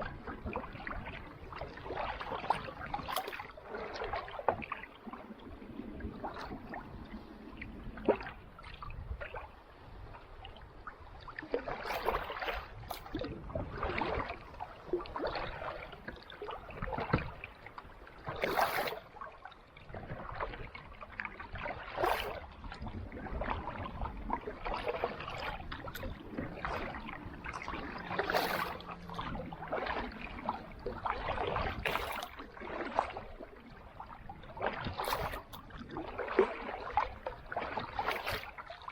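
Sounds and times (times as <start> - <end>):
paddle splashing in water: 0.0 - 38.9
water dripping and lapping: 0.0 - 38.9.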